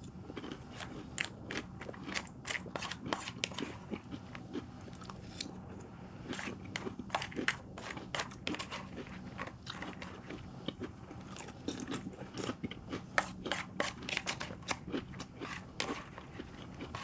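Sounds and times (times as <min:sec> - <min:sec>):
crunching cereal: 0:00.3 - 0:05.6, 0:06.2 - 0:17.0.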